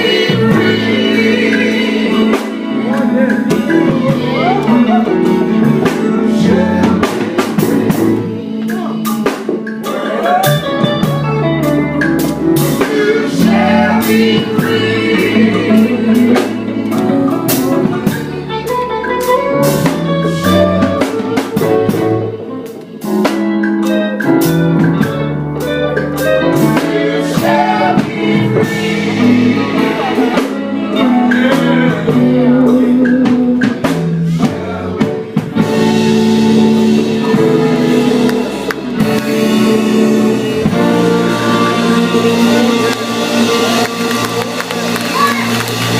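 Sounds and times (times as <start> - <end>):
people singing: 0.0 - 23.1, 25.6 - 45.9
gospel band playing: 0.0 - 45.9.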